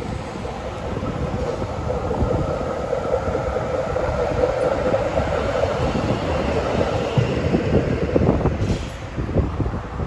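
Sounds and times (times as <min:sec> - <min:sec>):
tram humming tone: 0:00.0 - 0:10.0
tram wheels rumbling on rails: 0:00.0 - 0:10.0.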